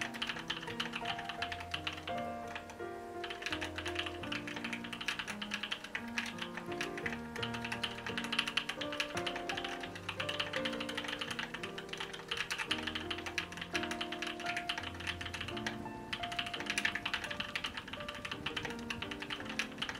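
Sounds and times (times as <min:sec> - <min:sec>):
fast mechanical keyboard typing: 0:00.0 - 0:19.9
soft background music chords: 0:00.0 - 0:19.9.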